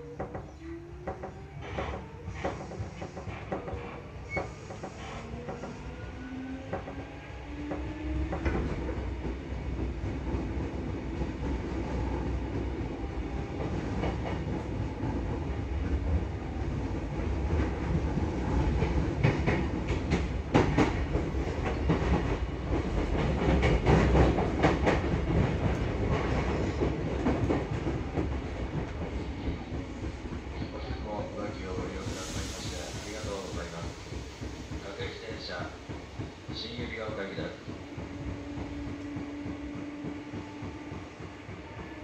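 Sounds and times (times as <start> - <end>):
train running rumble: 6.6 - 42.0.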